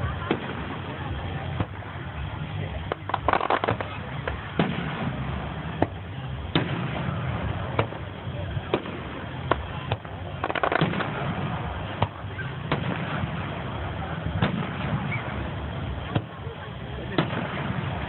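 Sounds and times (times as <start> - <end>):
small firework pops: 0.0 - 1.9, 2.6 - 18.0
firework shells bursting: 0.0 - 18.0
low background rumble: 0.0 - 18.0.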